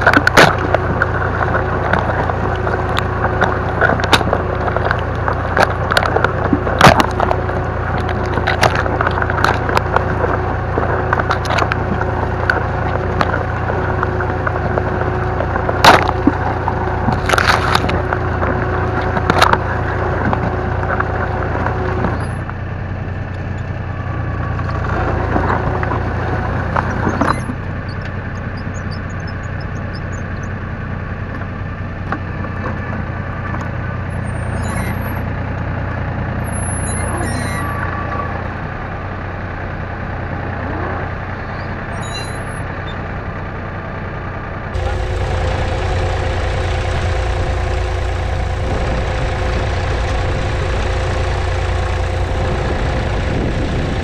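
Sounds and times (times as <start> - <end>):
soil crackling over plough: 0.0 - 39.0, 44.7 - 54.0
diesel tractor engine under load: 0.0 - 54.0.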